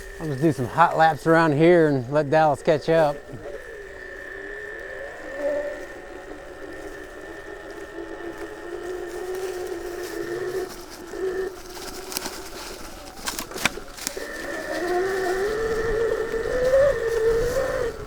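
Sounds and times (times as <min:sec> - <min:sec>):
electric motorcycle whining: 0:00.0 - 0:18.0.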